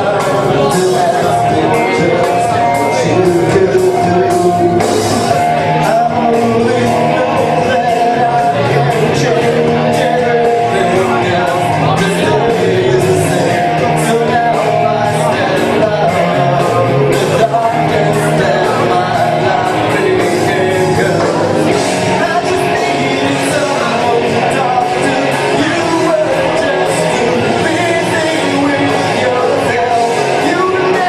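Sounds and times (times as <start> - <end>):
instrumental backing music: 0.0 - 31.0
person singing: 0.0 - 31.0.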